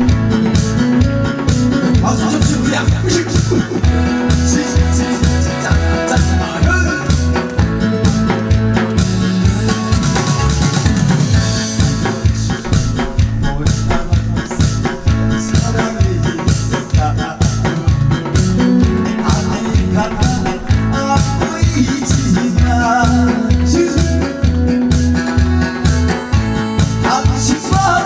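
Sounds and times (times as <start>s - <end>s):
instrumental music with drum beat: 0.0s - 28.0s.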